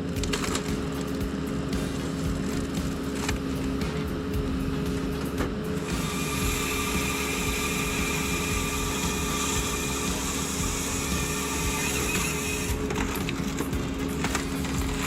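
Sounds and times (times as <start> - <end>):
high whine with hiss: 0.0 - 15.0
machine low hum: 0.0 - 15.0.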